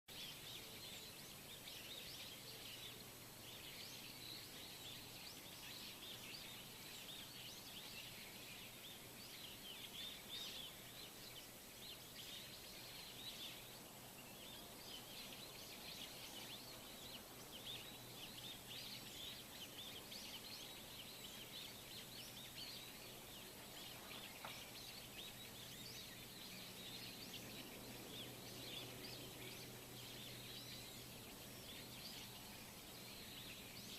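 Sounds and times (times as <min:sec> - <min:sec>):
small birds chirping chorus: 0:00.0 - 0:33.9.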